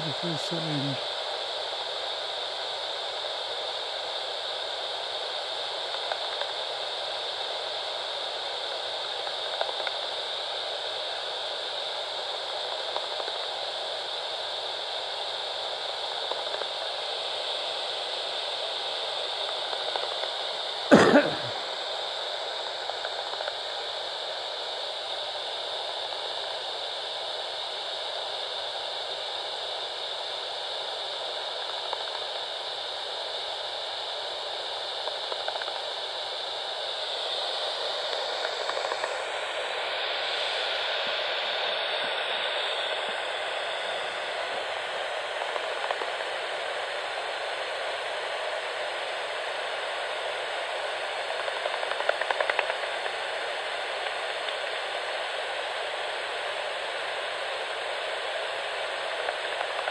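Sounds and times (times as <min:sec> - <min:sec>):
bat detector static hiss: 0:00.0 - 0:59.9.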